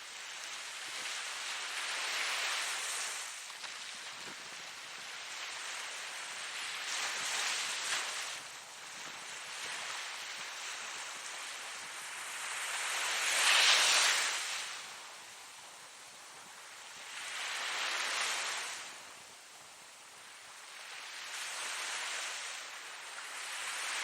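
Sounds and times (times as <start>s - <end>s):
ocean waves breaking on shore: 0.0s - 24.0s.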